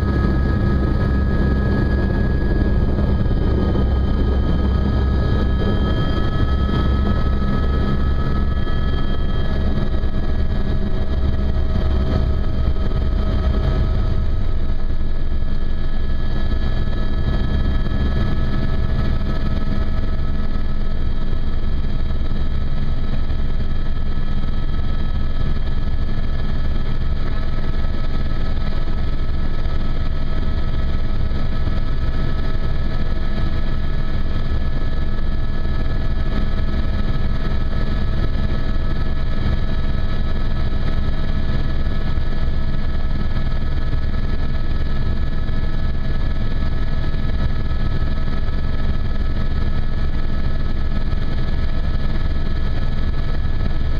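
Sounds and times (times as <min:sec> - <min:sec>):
helicopter rotor beat: 0:00.0 - 0:53.9
turbine whine: 0:00.0 - 0:53.9.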